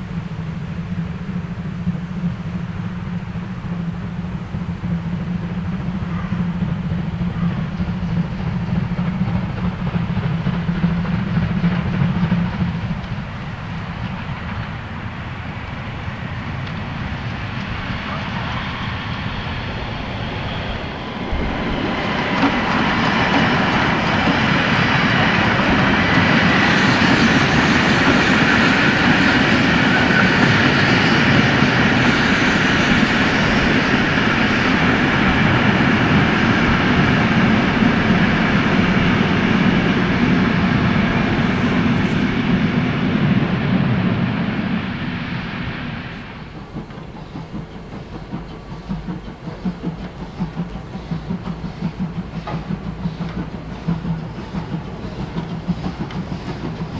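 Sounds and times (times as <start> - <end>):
train wheels on rails: 0.0 - 56.9.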